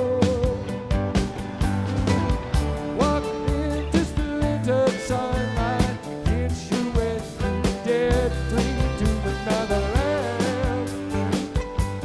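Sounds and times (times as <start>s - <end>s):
drum kit beat: 0.0s - 12.0s
electric bass: 0.0s - 12.0s
electric guitar: 0.0s - 12.0s.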